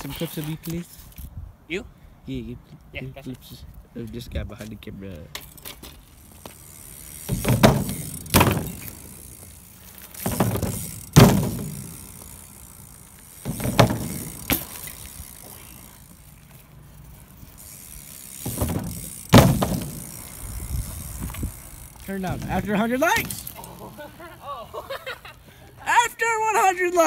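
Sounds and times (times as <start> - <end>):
bike rattling on rough concrete: 0.0 - 1.4, 2.8 - 26.0.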